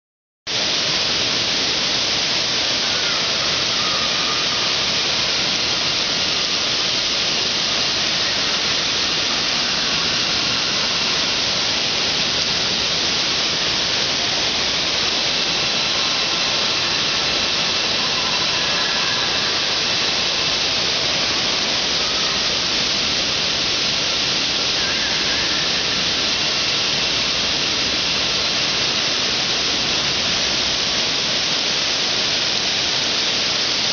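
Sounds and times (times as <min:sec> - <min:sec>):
rushing and splashing water: 0:00.5 - 0:33.9.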